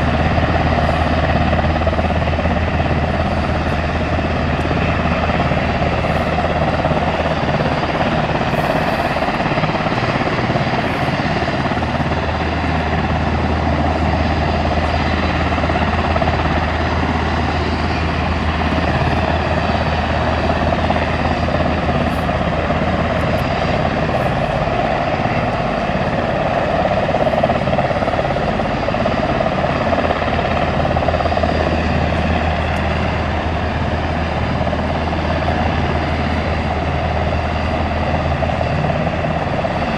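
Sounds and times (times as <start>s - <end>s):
helicopter engines and rotors: 0.0s - 39.9s.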